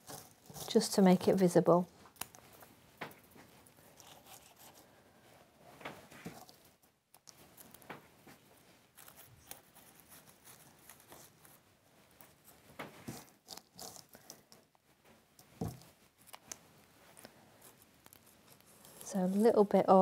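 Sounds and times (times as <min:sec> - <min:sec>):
stems rustling and clicking: 0:00.0 - 0:04.9, 0:05.6 - 0:20.0.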